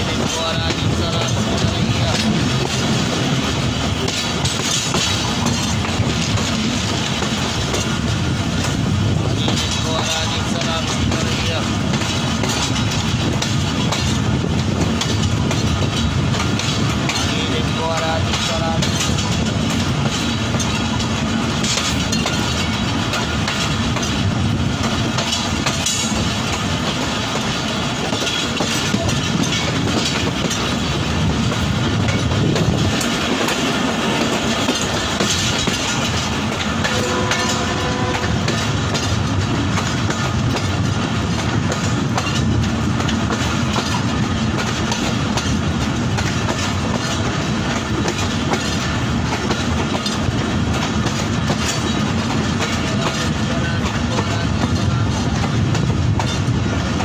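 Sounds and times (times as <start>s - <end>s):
rush of wind: 0.0s - 57.0s
train wheels clacking over rail joints: 0.0s - 57.0s.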